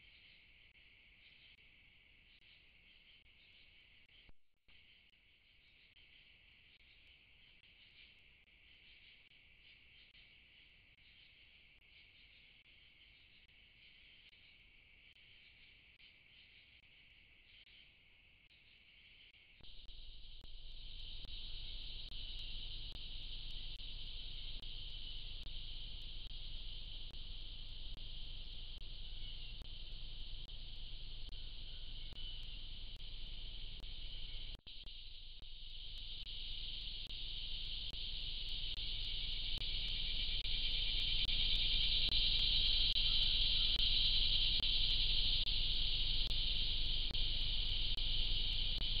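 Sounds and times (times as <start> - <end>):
faint low hum: 0.0 - 49.0
insect chorus drone: 0.0 - 49.0.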